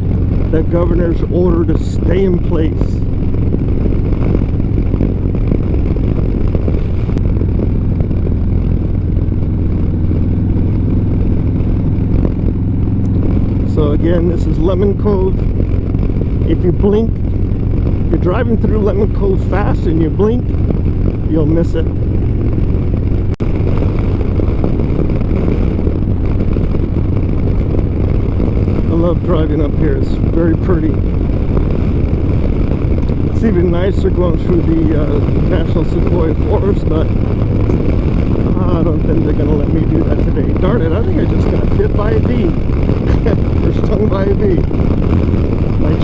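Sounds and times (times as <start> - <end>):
motorcycle engine running: 0.0 - 46.0
wind and road noise: 0.0 - 46.0.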